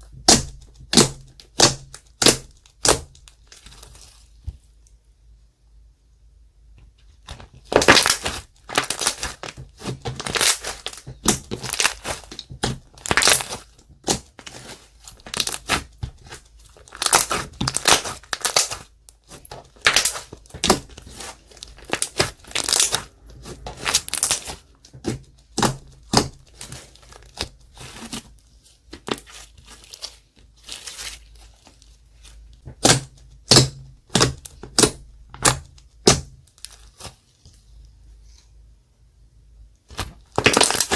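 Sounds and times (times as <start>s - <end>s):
slime squelching and popping: 0.0s - 4.4s, 7.2s - 37.2s, 39.8s - 40.9s.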